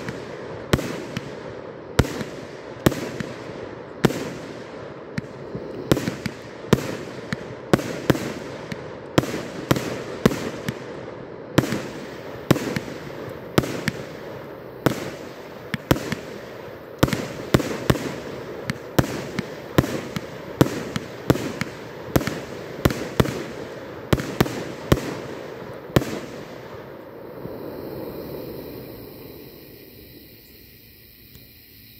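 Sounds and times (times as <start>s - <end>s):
firework bangs: 0.0s - 29.8s
firework stars crackling: 0.0s - 31.9s.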